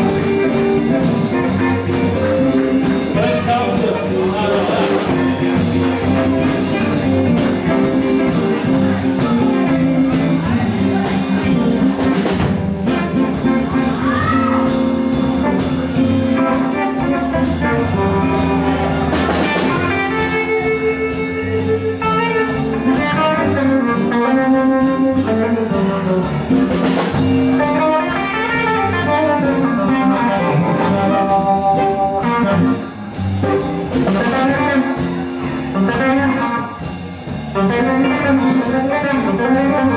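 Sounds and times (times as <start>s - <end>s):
electric guitar: 0.0s - 39.9s
steady drum beat: 0.0s - 39.9s.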